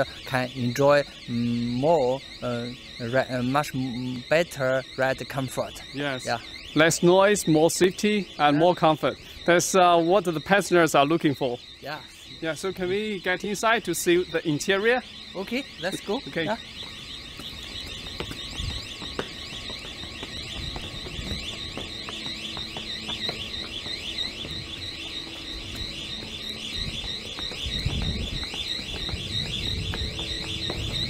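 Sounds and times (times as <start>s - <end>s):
electronic alarm warbling: 0.0s - 31.0s.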